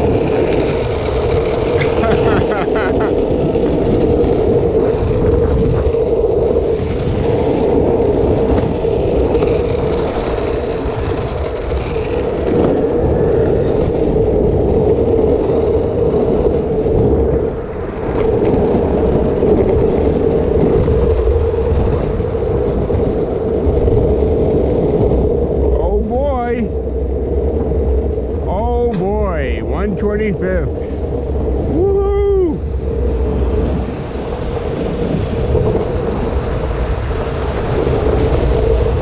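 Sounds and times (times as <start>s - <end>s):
longboard wheels rolling on asphalt: 0.0s - 39.0s.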